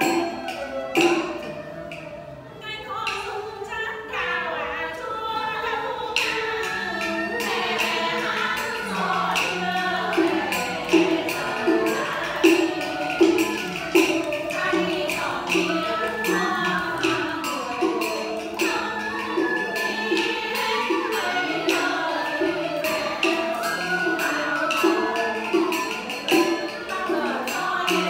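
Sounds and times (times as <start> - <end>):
traditional instrumental accompaniment: 0.0 - 28.0.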